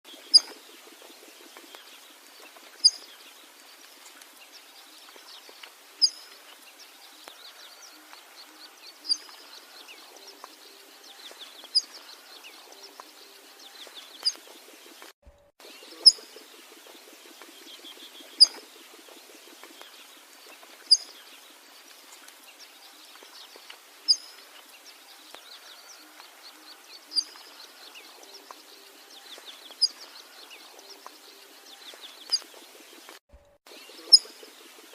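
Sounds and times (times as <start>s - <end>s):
faint chorus of bird chirps: 0.1s - 34.9s.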